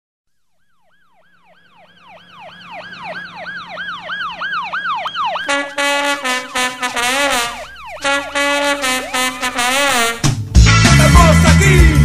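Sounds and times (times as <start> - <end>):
siren yelping: 0.5 - 10.3.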